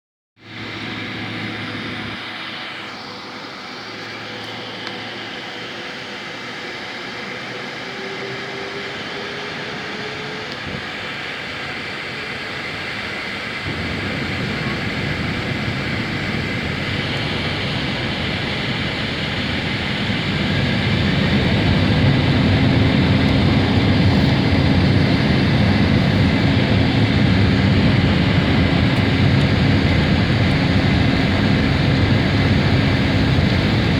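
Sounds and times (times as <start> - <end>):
jet engines from cabin: 0.4 - 33.9.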